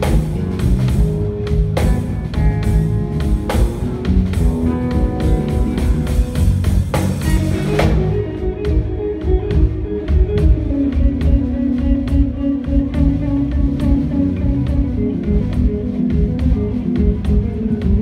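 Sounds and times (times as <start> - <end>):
bass guitar: 0.0 - 18.0
electric guitar melodic notes: 0.0 - 18.0
steady drum beat: 0.0 - 18.0.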